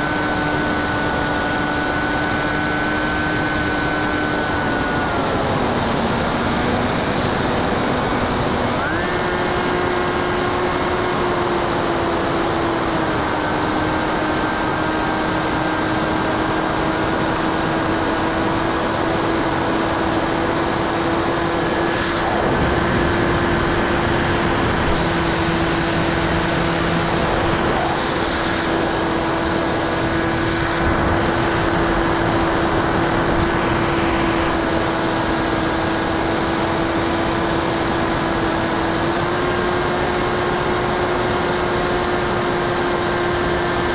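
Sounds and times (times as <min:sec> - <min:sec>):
electric motor propeller whine: 0:00.0 - 0:43.9.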